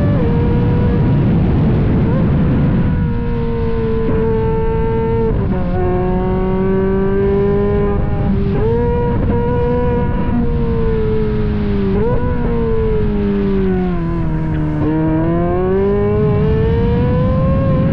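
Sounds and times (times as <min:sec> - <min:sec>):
racing car engine shifting gears: 0:02.9 - 0:17.9.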